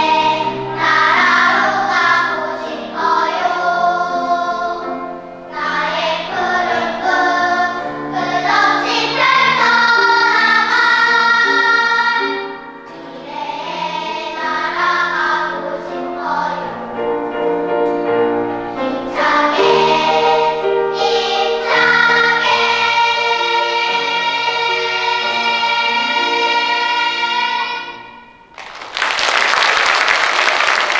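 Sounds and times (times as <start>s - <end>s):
choir singing in parts: 0.0s - 28.5s.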